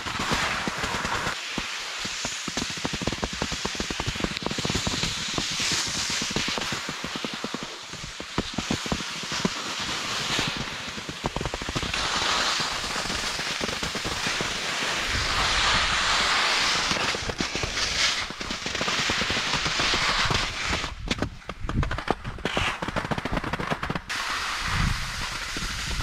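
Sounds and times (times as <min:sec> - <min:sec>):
skis scraping over snow: 0:00.0 - 0:26.0.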